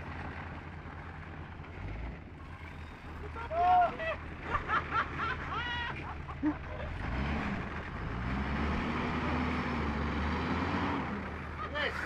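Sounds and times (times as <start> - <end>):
suv engine revving: 1.3 - 12.0.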